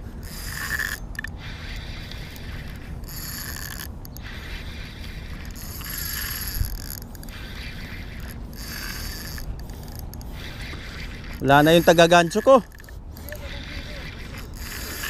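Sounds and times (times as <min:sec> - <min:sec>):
fishing reel gears whirring: 0:00.0 - 0:15.0.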